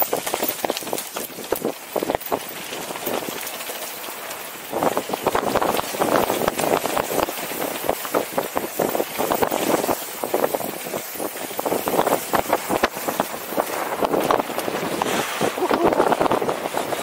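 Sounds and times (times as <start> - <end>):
bike rattling over bumps: 0.0 - 17.0
tyres crunching over dirt and stones: 0.0 - 17.0.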